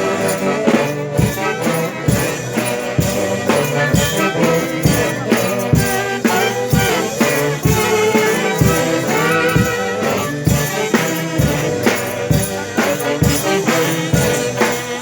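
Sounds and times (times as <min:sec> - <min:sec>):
band music with strong beat: 0:00.0 - 0:15.0.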